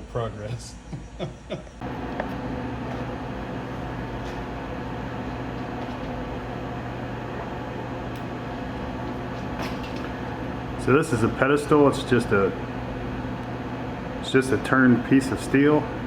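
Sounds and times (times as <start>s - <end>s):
electric motor humming: 1.8s - 16.0s.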